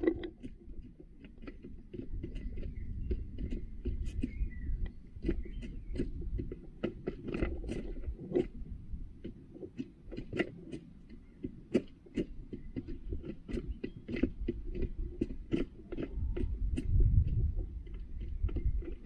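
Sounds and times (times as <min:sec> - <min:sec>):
hens pecking plastic feeder: 0:00.0 - 0:19.0.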